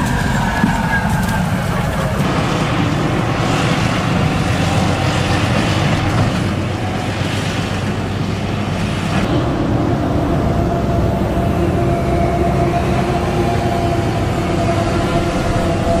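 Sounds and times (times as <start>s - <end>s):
tractor diesel engine under load: 0.0s - 16.0s
trailer running gear rumbling: 0.0s - 16.0s.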